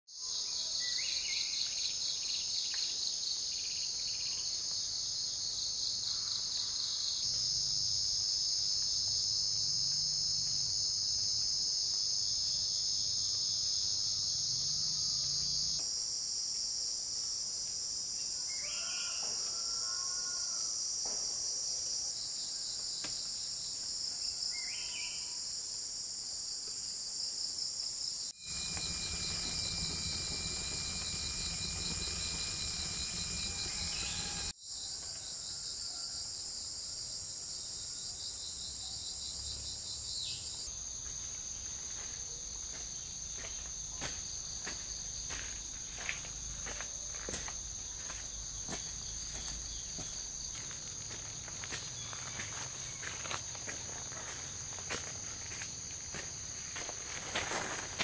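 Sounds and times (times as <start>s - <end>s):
insect chorus: 0.1s - 58.0s.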